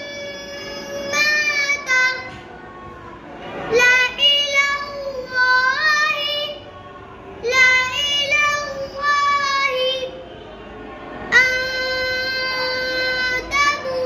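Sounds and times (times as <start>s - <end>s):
boy chanting syllables: 0.0s - 2.6s, 3.6s - 6.8s, 7.4s - 10.2s, 11.3s - 14.0s.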